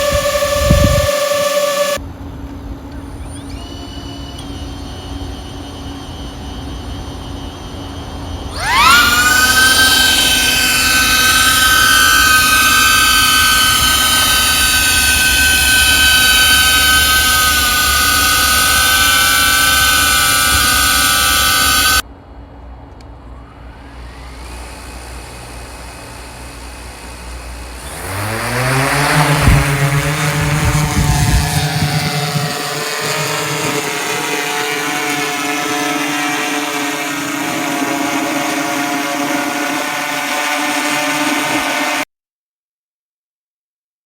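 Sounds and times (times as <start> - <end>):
drone motors whining: 0.0 - 2.0, 3.1 - 22.0, 23.3 - 42.1.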